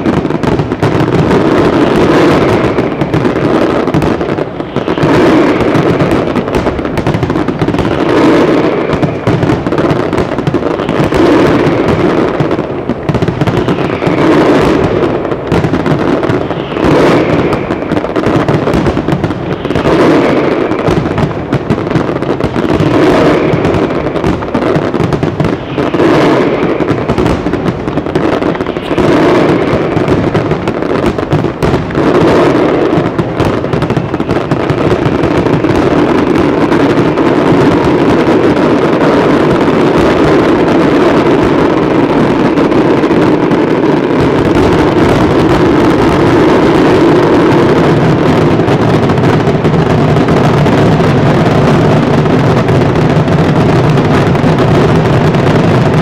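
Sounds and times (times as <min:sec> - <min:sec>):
firework shells bursting: 0:00.0 - 0:56.0.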